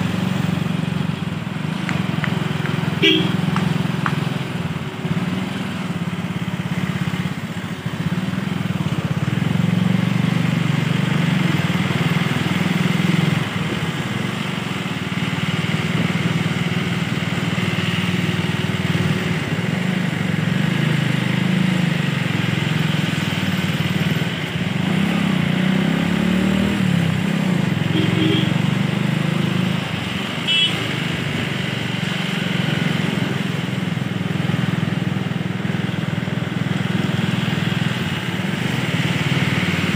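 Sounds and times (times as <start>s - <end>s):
road vehicle engine drone: 0.0s - 39.9s.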